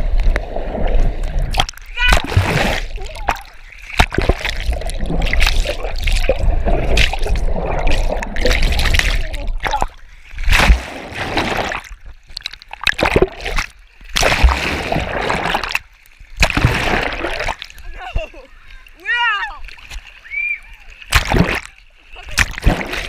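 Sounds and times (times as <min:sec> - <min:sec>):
pool water splashing underwater: 0:00.0 - 0:23.0.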